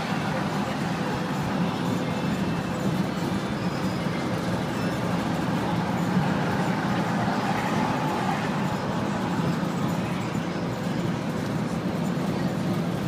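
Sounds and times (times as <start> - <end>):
bus diesel engine drone: 0.0 - 13.0
road and body rumble: 0.0 - 13.0.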